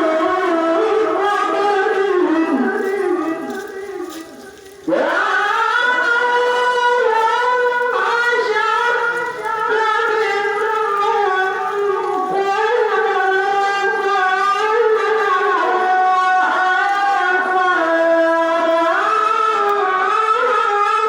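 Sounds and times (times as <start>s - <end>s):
person chanting in high register: 0.0s - 21.0s.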